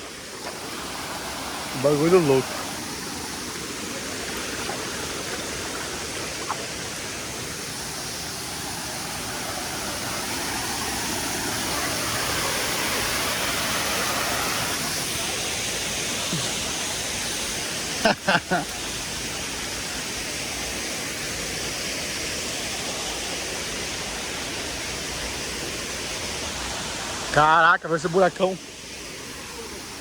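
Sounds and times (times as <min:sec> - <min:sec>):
flowing stream water: 0:00.0 - 0:30.0.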